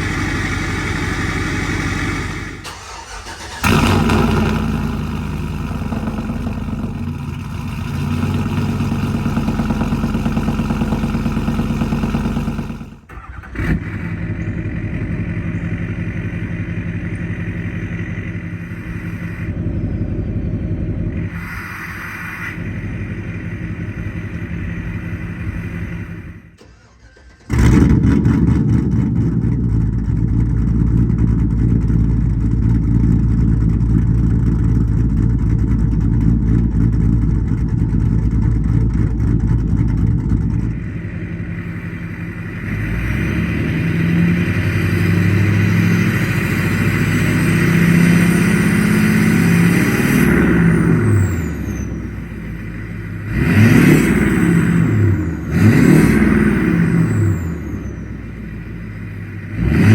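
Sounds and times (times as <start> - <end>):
pickup truck engine idling: 0.0 - 27.4, 29.4 - 49.5, 50.6 - 55.5, 56.6 - 59.6
truck engine revving: 0.0 - 59.9.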